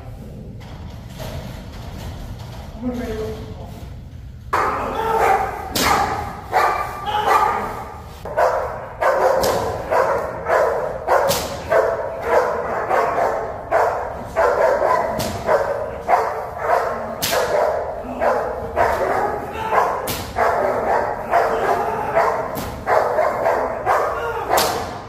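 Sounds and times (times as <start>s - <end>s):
dog barking: 4.6s - 25.0s.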